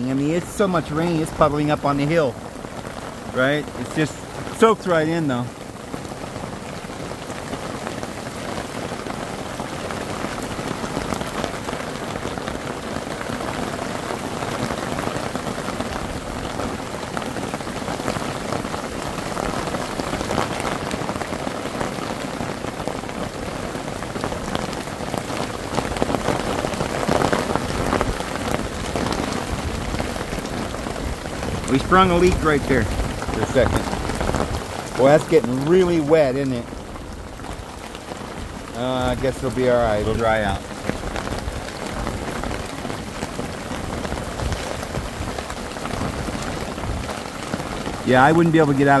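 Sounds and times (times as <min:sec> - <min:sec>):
heavy rain pouring: 0:00.0 - 0:49.0.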